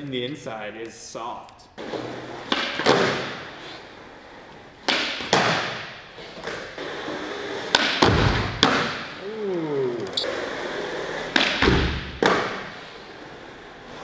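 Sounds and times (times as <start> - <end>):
skateboard wheels rolling on concrete: 1.8 - 14.0.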